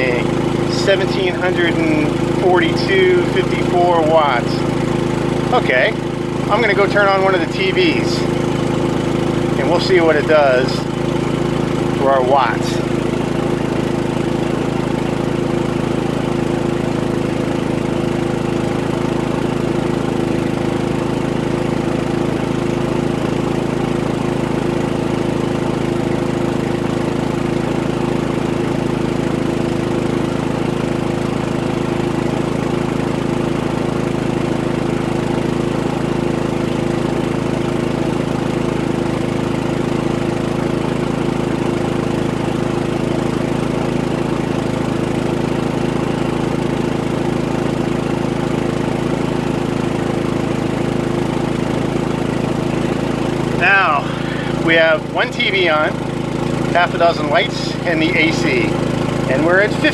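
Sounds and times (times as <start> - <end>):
generator engine running: 0.0 - 59.9.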